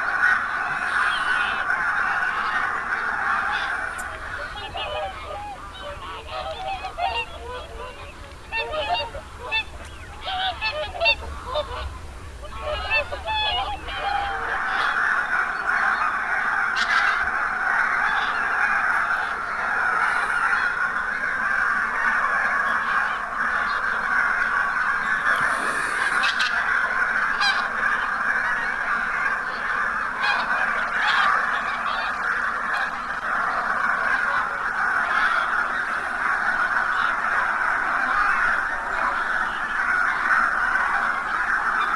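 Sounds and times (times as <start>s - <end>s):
geese honking: 0.0s - 41.9s.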